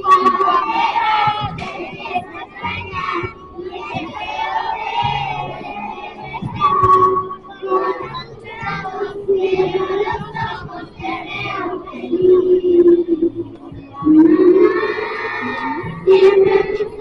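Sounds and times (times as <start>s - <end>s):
voice through a microphone: 0.0s - 4.2s, 5.0s - 17.0s
children singing together: 0.0s - 17.0s.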